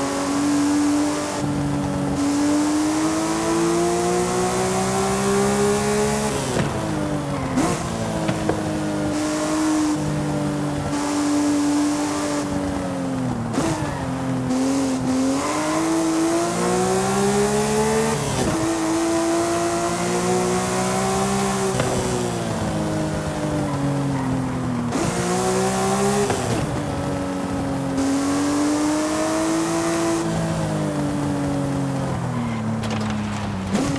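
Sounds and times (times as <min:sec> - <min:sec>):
car engine accelerating: 0:00.0 - 0:33.9
wind and road noise: 0:00.0 - 0:33.9.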